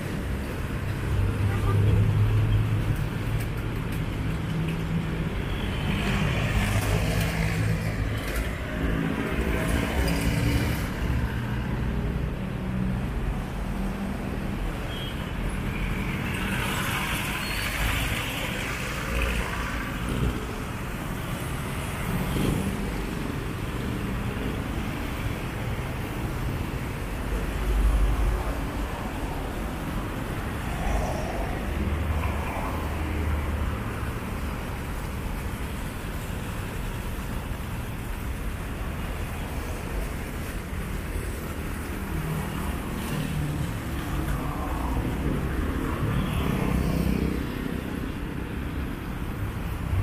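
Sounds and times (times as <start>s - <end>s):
vehicles driving past: 0.0s - 50.0s.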